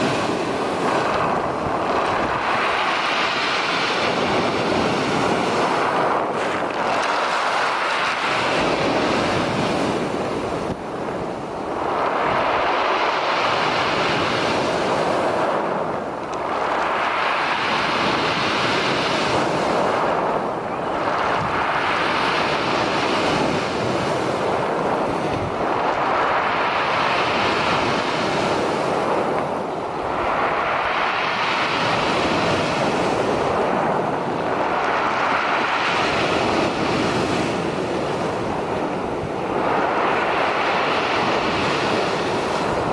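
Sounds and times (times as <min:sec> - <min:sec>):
waves breaking: 0:00.0 - 0:42.9
wind buffeting microphone: 0:00.0 - 0:42.9.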